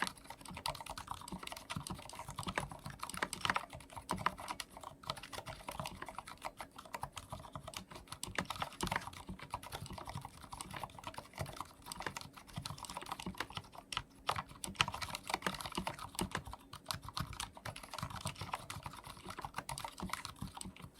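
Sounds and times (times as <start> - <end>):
fast typing on mechanical keyboard: 0.0 - 20.9.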